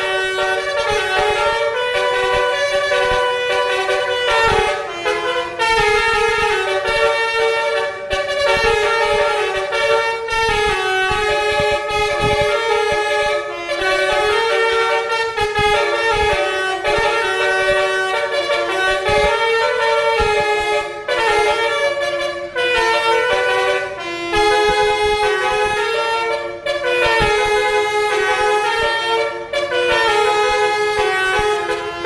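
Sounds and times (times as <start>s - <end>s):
bus air horn playing a melody: 0.0s - 32.0s.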